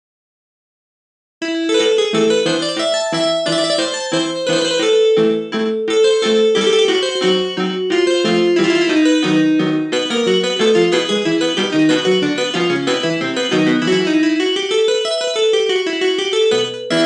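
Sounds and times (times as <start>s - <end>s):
polyphonic ringtone melody: 1.4s - 17.0s.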